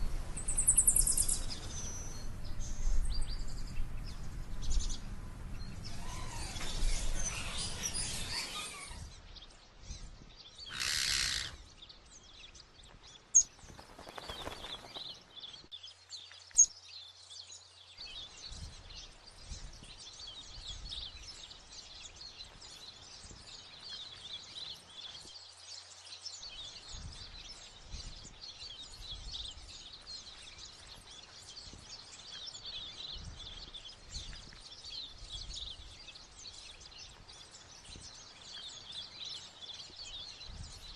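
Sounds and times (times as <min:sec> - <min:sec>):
birds chirping: 0:00.0 - 0:40.9
outdoor background noise: 0:00.0 - 0:40.9.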